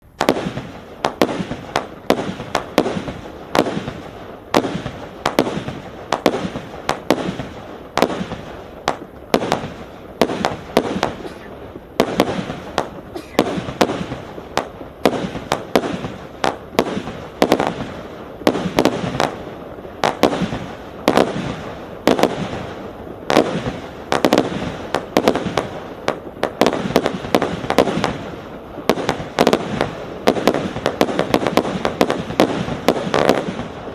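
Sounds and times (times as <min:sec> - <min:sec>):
fireworks cake bangs: 0:00.0 - 0:33.9.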